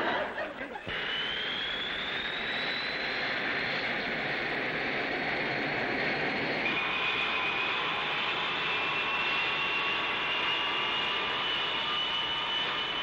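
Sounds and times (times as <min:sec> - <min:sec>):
jet engines running: 0:00.0 - 0:13.0
high engine whine: 0:00.1 - 0:13.0.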